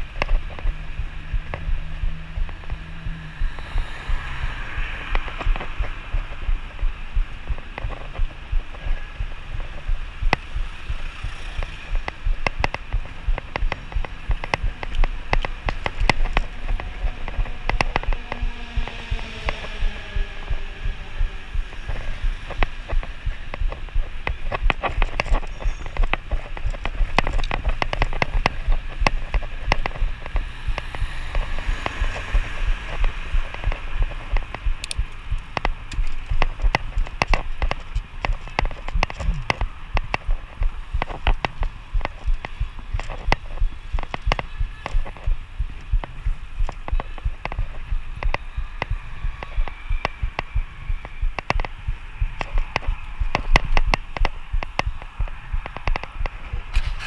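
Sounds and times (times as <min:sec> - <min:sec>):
wind buffeting microphone: 0:00.0 - 0:57.0
bicycle clicks and rattles: 0:07.6 - 0:57.0.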